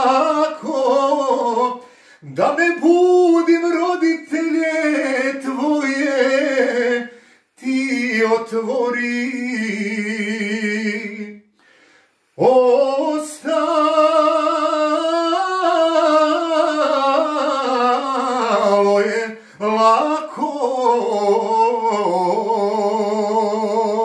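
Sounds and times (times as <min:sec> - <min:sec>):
man singing with vibrato: 0:00.0 - 0:24.0.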